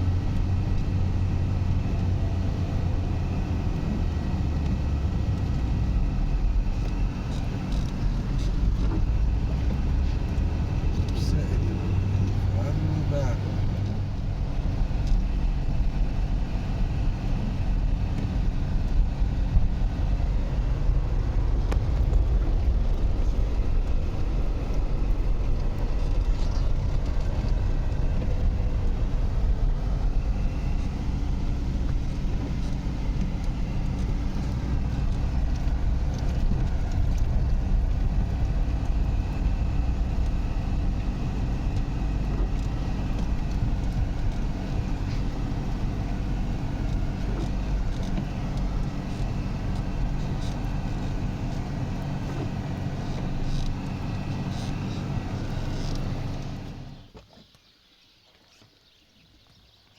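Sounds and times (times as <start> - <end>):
vehicle engine running: 0.0 - 57.2.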